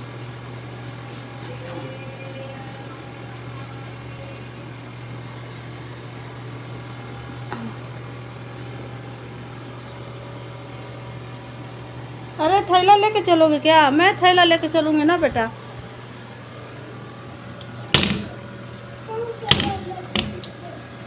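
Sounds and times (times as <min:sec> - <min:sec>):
appliance motor humming: 0:00.0 - 0:21.0.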